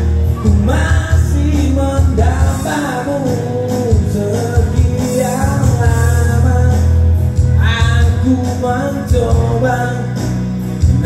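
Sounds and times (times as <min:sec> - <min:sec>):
backing music with bass line: 0:00.0 - 0:11.0
man singing ballad: 0:00.0 - 0:11.0.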